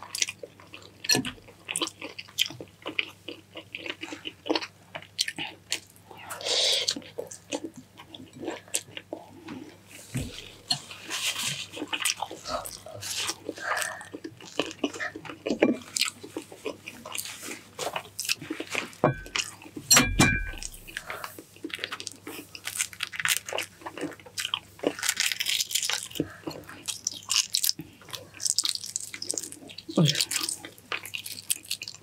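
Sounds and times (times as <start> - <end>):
chewing and crunching: 0.0 - 32.0.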